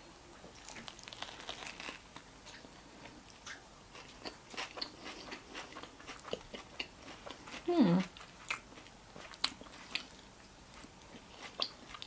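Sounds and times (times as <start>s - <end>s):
chewing crunchy bread roll: 0.4s - 12.0s.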